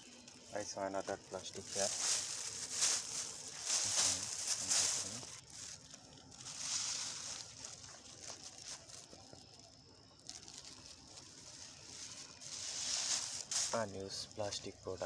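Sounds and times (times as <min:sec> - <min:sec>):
plastic rustling and crinkling: 0:00.0 - 0:15.0.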